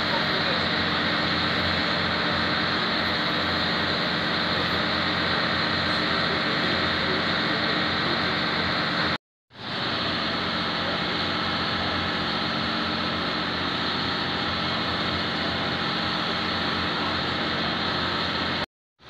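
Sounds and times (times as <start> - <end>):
excavator diesel engine running: 0.0 - 18.7.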